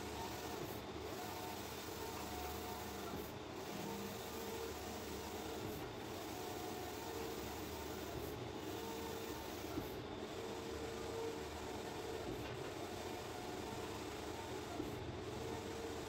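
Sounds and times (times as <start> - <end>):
faint printer hum: 0.0 - 16.0.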